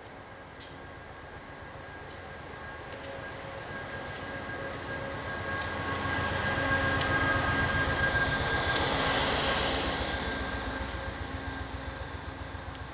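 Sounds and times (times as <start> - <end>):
diesel locomotive engine rumble: 0.0 - 12.9.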